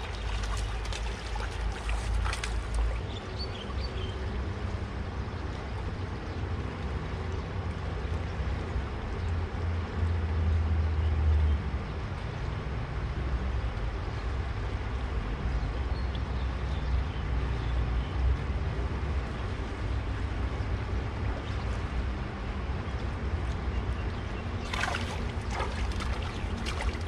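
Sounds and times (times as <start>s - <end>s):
flowing river water: 0.0s - 27.0s.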